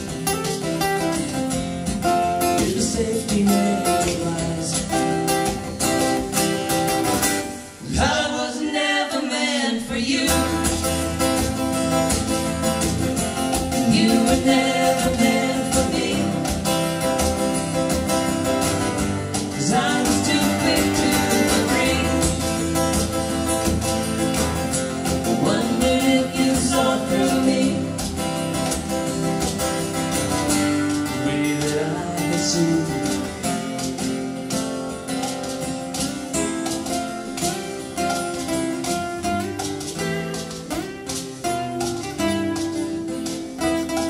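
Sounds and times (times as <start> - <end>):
acoustic guitars playing folk song: 0.0 - 44.0.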